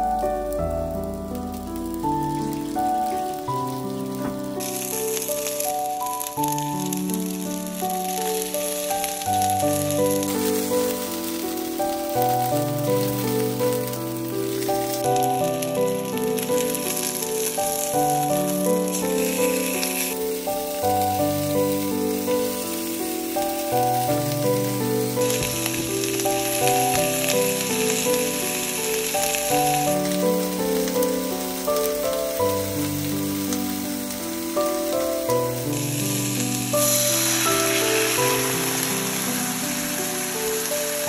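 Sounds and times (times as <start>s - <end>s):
fish sizzling in a pan: 0.0s - 41.0s
gentle background music: 0.0s - 41.0s.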